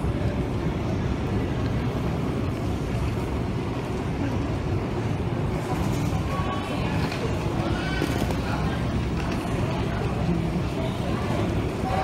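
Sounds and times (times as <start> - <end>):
low rumble of busy hall: 0.0 - 12.0.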